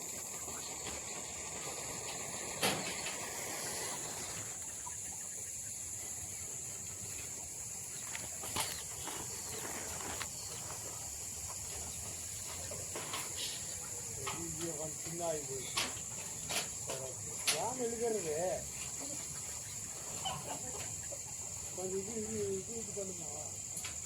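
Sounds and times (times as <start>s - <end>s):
insect trilling: 0.0s - 24.0s.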